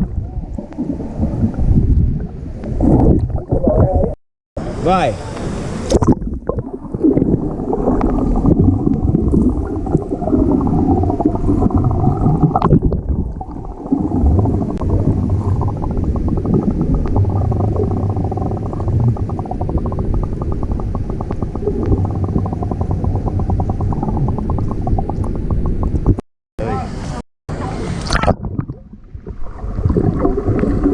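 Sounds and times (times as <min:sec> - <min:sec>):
muffled underwater churning: 0:00.0 - 0:04.2, 0:05.6 - 0:26.2, 0:27.5 - 0:30.9.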